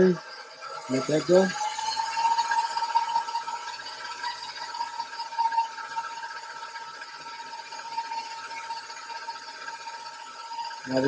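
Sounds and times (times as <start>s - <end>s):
stand mixer motor whining: 0.0s - 11.0s.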